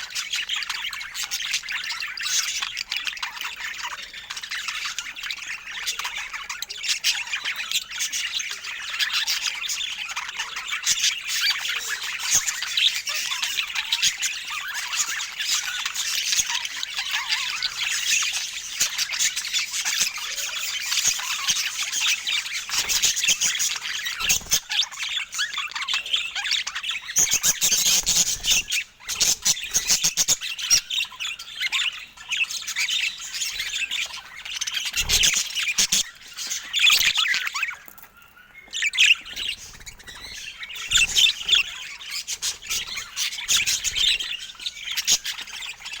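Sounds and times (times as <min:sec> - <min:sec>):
budgerigar chatter: 0:00.0 - 0:46.0.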